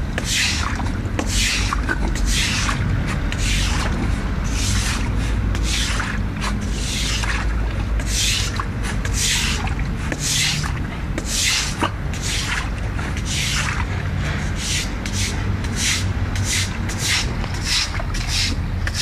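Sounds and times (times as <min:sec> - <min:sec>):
sweeping water across wet floor: 0:00.0 - 0:19.0.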